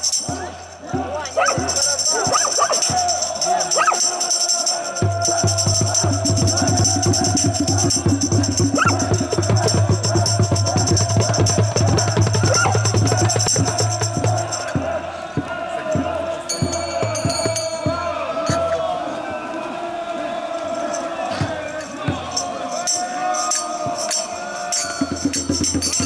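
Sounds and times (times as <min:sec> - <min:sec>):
fast rhythmic drumming: 0:00.0 - 0:19.0, 0:21.3 - 0:26.0
jingling percussion: 0:00.0 - 0:26.0.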